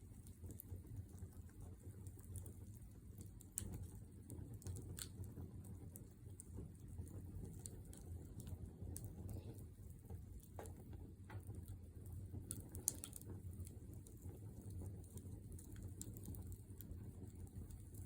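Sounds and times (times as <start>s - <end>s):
fire crackling: 0.0s - 18.0s
fire popping: 0.0s - 18.0s.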